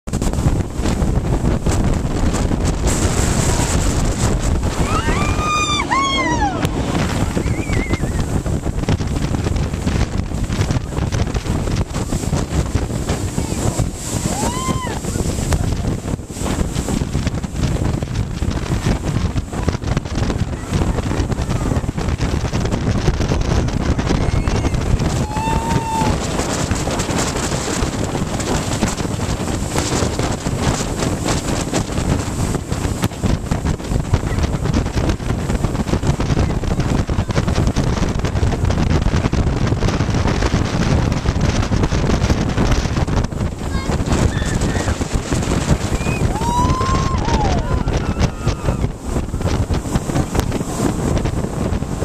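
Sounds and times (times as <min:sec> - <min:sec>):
jet boat running at speed: 0:00.0 - 0:52.0
wind buffeting microphone: 0:00.0 - 0:52.0.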